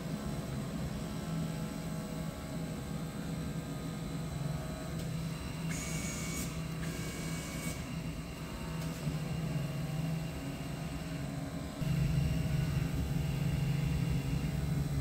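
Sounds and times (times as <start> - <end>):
cutting machine hum and whir: 0.0 - 15.0.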